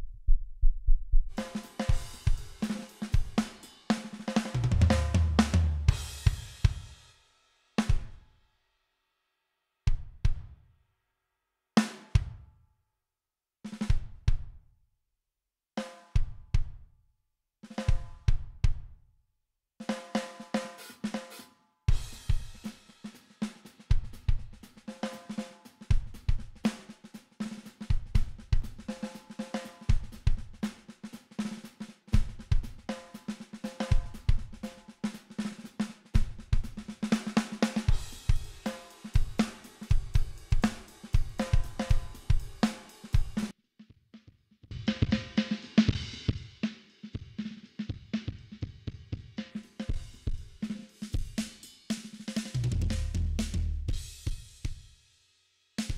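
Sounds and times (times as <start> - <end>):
saturated drum kit groove: 1.3 - 8.2, 13.7 - 14.6, 17.7 - 18.9, 19.8 - 55.9.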